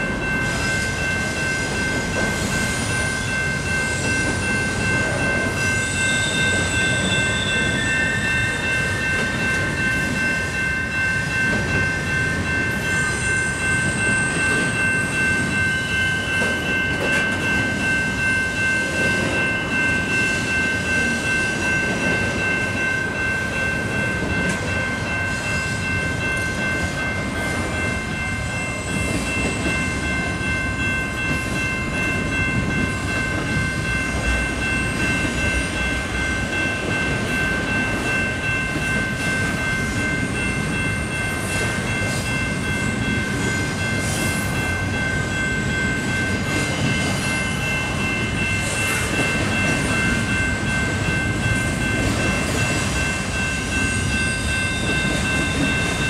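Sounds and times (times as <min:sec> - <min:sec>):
freight train wheels on rail: 0:00.0 - 0:56.0
high-pitched ringing tone: 0:00.0 - 0:56.0.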